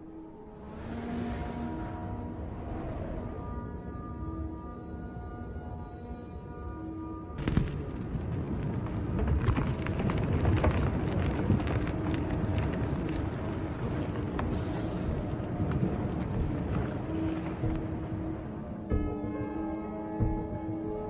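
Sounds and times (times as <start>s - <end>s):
low crackling rumble: 0.0s - 6.4s, 7.2s - 21.0s.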